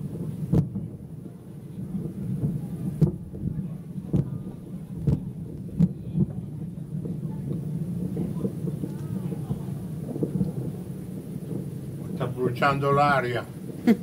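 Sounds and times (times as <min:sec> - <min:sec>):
fireworks booming: 0:00.0 - 0:14.0
low fireworks rumble: 0:00.0 - 0:14.0.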